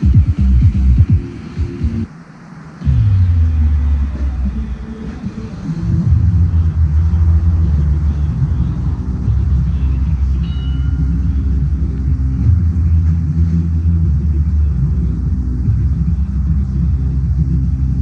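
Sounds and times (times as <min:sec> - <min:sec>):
bass-heavy electronic music: 0:00.0 - 0:18.0.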